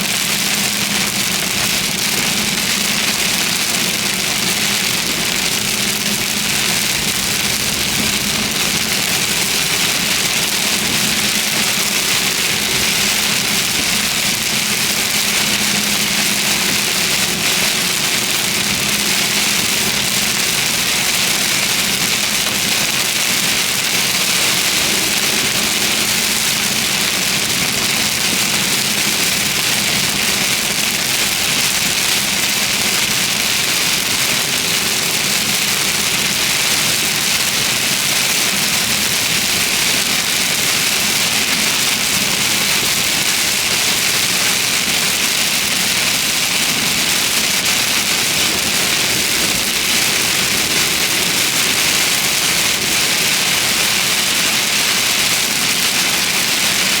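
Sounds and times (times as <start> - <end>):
heavy rain: 0.0 - 57.0
low hum of engine and road: 0.0 - 57.0
tyre spray on wet road: 0.0 - 57.0.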